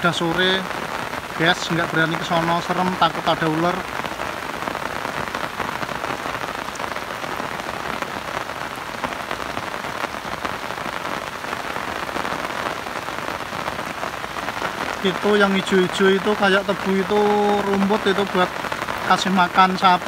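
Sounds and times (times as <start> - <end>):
rain falling on river: 0.0 - 20.0.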